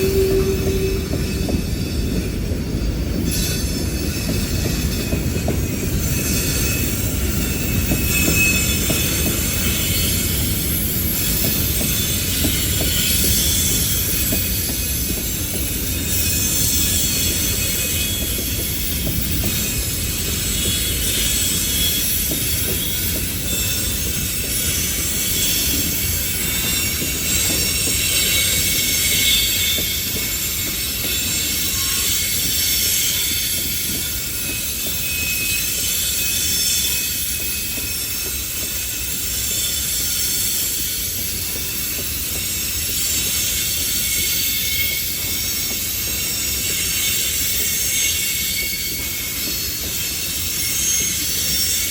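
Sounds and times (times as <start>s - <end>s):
train wheels rumbling on rails: 0.0s - 51.9s
wheel squeal: 0.0s - 51.9s.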